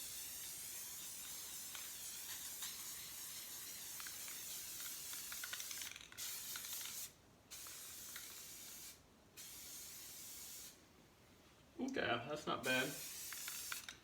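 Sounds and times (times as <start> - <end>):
aerosol can spraying: 0.0 - 10.8, 12.6 - 14.0.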